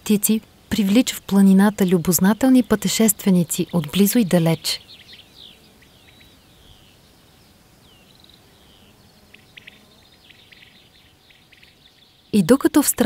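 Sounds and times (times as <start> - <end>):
low steady outdoor hiss: 0.0 - 13.0
birds chirping and whistling: 1.7 - 13.0.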